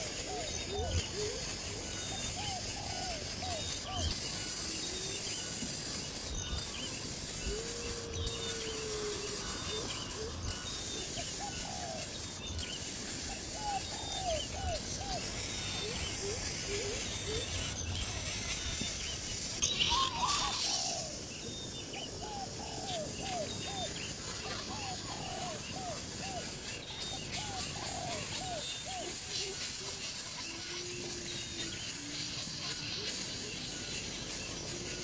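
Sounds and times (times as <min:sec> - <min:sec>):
birds chirping: 0:00.0 - 0:34.8
steady high hiss: 0:00.0 - 0:35.0.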